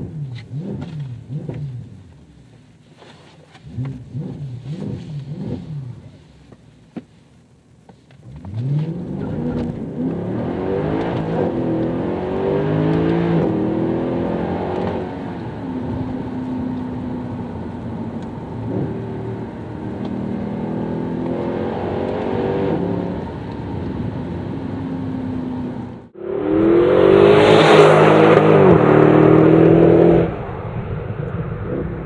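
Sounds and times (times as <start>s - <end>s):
car engine through gear changes: 0.0s - 7.1s, 8.0s - 30.4s.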